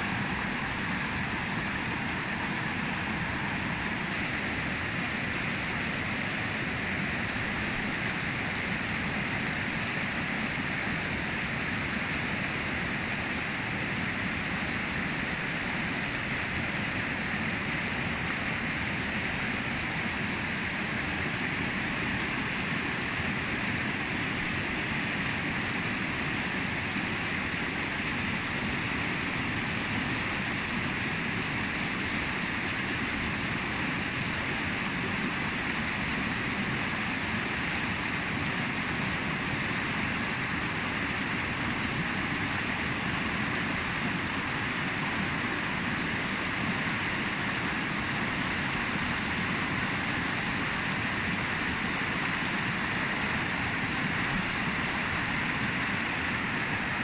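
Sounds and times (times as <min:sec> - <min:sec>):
river rushing over rapids: 0:00.0 - 0:57.0.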